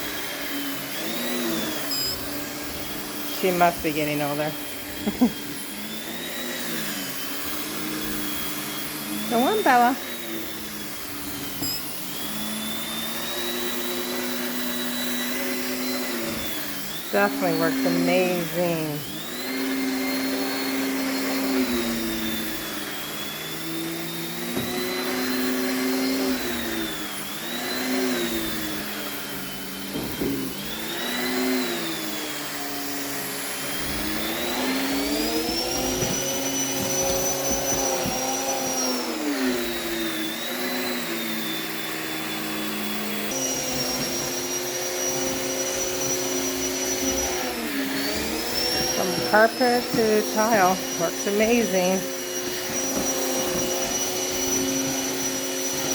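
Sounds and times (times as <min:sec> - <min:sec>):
vacuum cleaner suction whine: 0:00.0 - 0:55.9.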